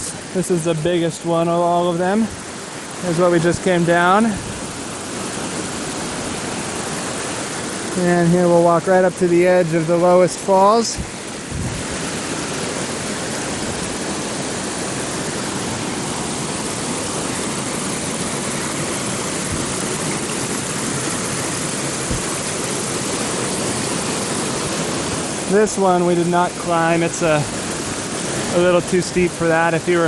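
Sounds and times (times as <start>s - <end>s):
waterfall pouring: 0.0s - 30.0s.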